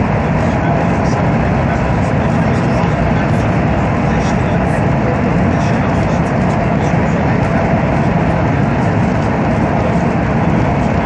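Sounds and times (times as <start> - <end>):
high-speed train running: 0.0 - 11.0.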